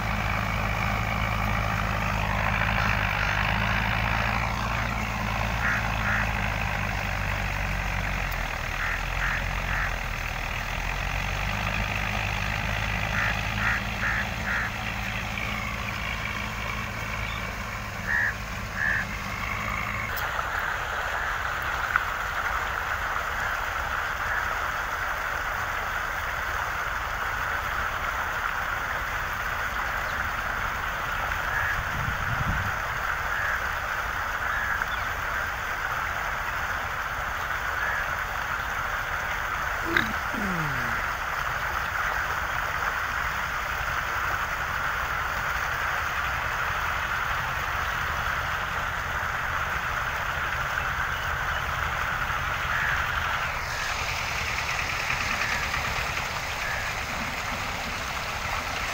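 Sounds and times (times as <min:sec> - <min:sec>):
diesel tractor engine running: 0:00.0 - 0:58.9.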